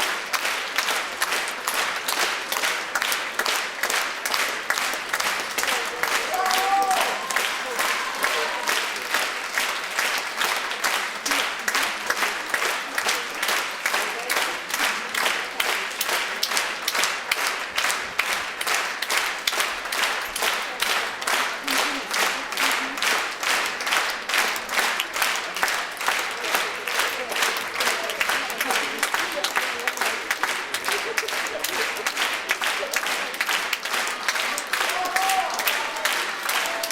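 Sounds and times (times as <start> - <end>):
audience clapping in unison: 0.0 - 36.9.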